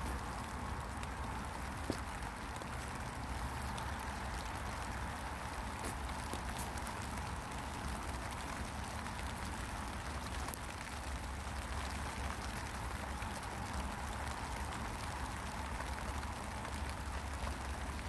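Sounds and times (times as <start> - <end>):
rain on plastic and soil: 0.0 - 18.0.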